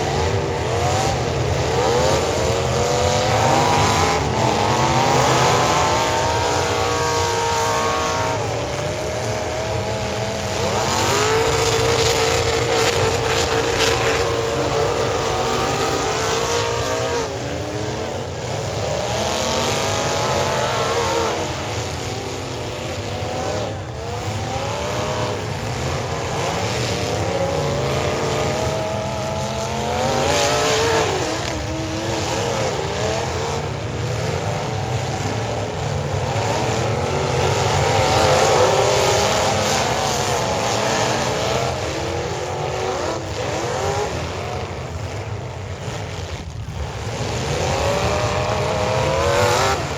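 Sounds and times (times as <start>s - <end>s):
car engines revving: 0.0s - 49.9s.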